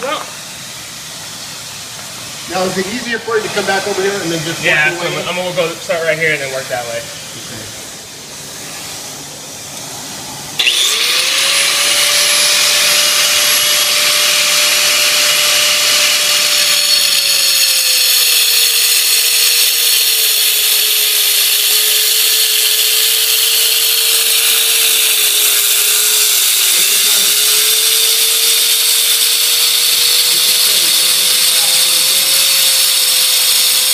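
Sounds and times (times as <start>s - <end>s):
power saw cutting stone: 0.0s - 8.1s, 10.5s - 33.9s
vacuum hissing: 0.0s - 28.2s.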